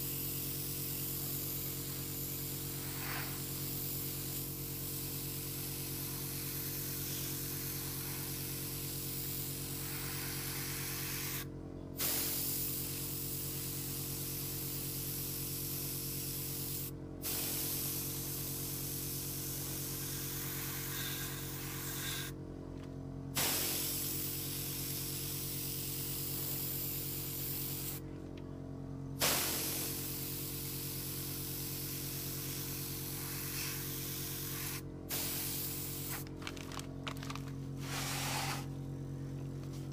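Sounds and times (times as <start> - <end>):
airbrush hissing: 0.0 - 22.3, 23.4 - 28.0, 29.2 - 36.2, 37.8 - 38.7
air compressor humming: 0.0 - 39.9.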